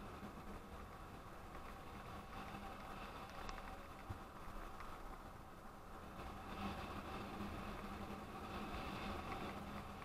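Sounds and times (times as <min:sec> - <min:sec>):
road and wind noise: 0:00.0 - 0:10.0
vehicle motor hum: 0:00.0 - 0:10.0.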